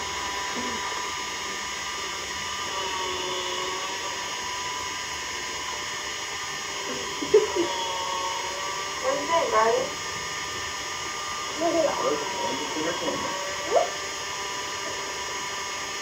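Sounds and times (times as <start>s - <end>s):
faint wavering hum: 0.0s - 16.0s
small motor whirring: 0.0s - 16.0s.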